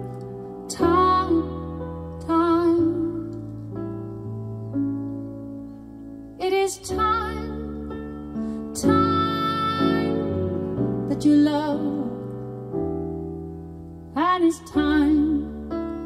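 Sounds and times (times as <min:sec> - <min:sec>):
piano chords: 0:00.0 - 0:16.0
slow ballad over speakers: 0:00.0 - 0:16.0.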